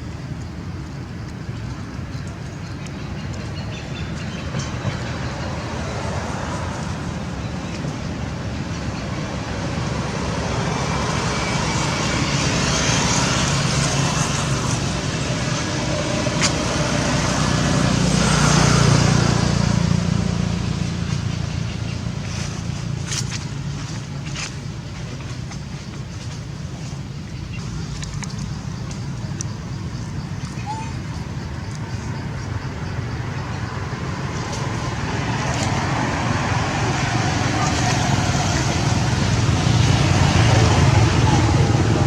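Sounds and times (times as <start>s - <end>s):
passing vehicle rumble: 3.1s - 42.0s.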